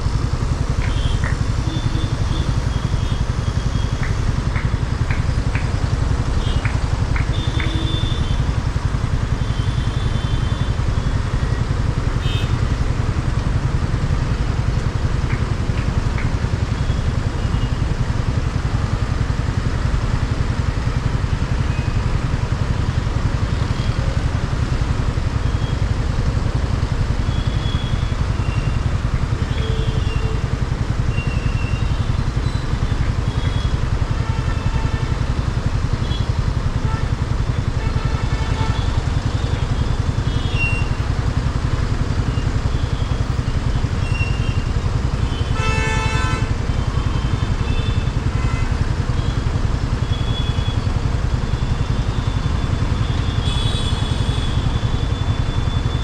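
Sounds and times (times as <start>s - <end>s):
motorcycle engine rumble: 0.0s - 56.0s.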